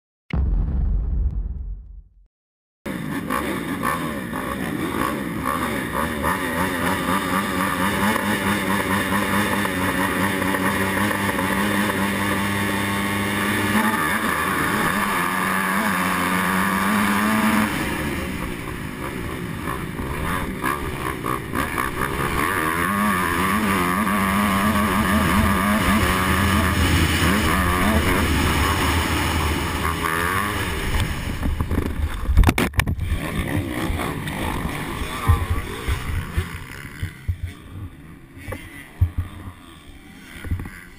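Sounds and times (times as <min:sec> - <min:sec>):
motocross bike engine revving: 0:02.9 - 0:40.9.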